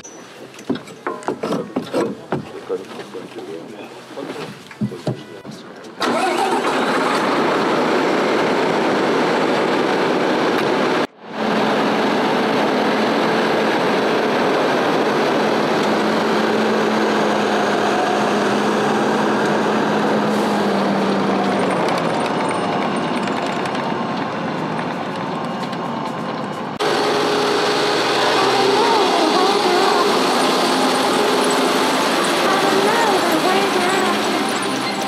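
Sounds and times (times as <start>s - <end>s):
tractor engine running: 6.0s - 35.0s.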